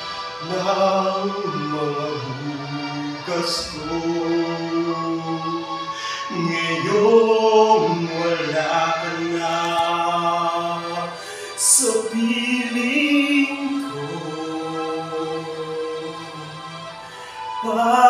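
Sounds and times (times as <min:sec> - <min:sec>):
man singing slow melody: 0:00.4 - 0:18.0.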